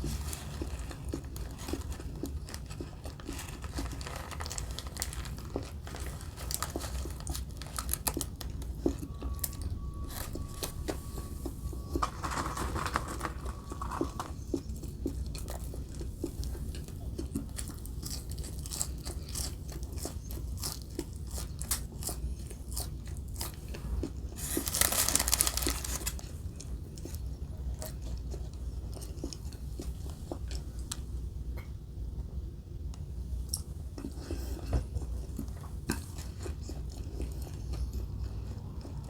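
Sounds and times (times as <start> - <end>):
crunchy chewing: 0.0 - 31.2, 33.4 - 39.0.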